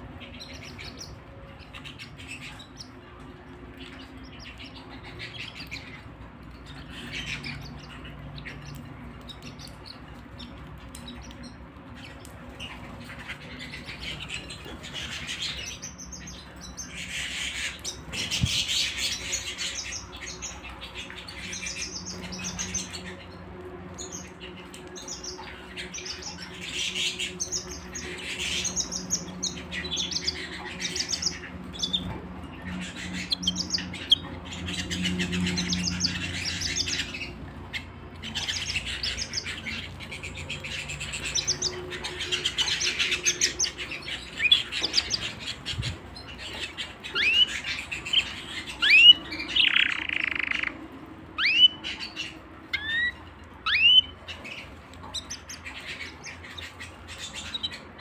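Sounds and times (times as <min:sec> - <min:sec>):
canaries chirping and trilling: 0:00.0 - 0:58.0.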